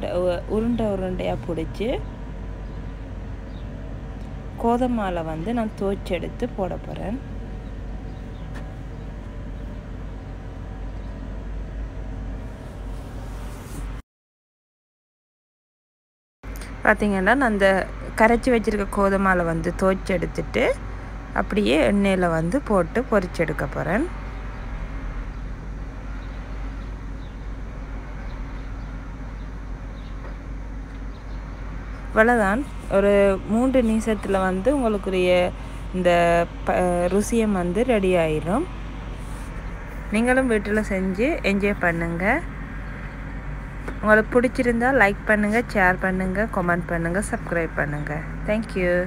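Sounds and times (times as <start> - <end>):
low steady hum: 0.0 - 14.0, 16.5 - 49.0.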